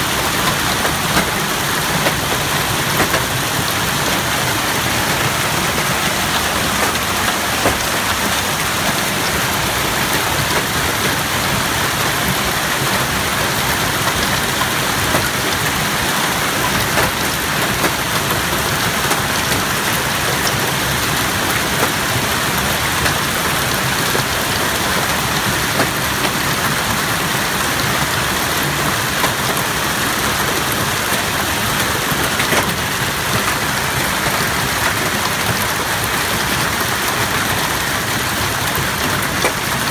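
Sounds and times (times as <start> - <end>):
hail pelting ground and cars: 0.0 - 39.9.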